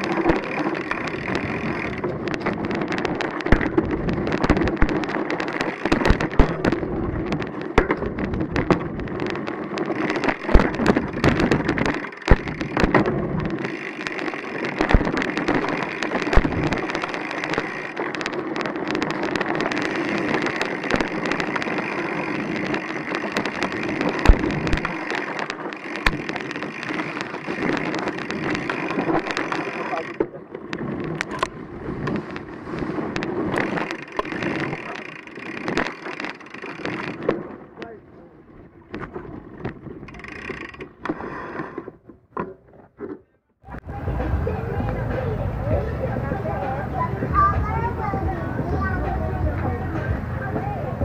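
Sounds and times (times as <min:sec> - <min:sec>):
mountain bike rolling on dirt trail: 0:00.0 - 0:43.0, 0:43.6 - 0:51.0
bike knocks and rattles over bumps: 0:00.0 - 0:46.0.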